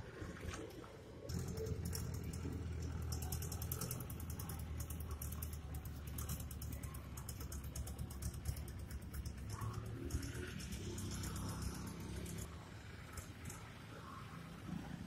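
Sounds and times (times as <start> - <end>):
implement rattling clatter: 0.0 - 15.0
tractor diesel engine: 0.0 - 15.0.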